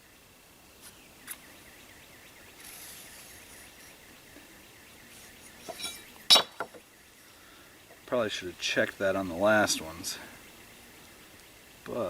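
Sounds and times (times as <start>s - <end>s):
low steady hiss: 0.0s - 12.0s
faint rapid chirping: 0.8s - 12.0s.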